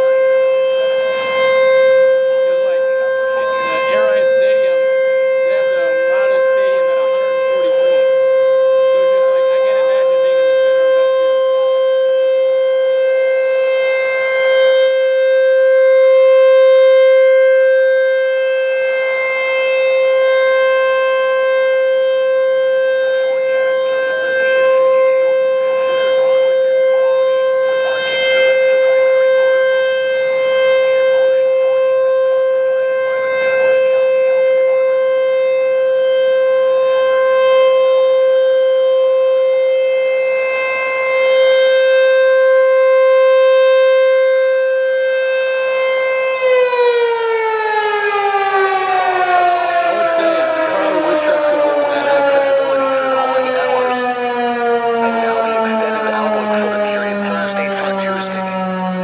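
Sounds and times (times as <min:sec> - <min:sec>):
rotating warning siren: 0:00.0 - 0:59.0.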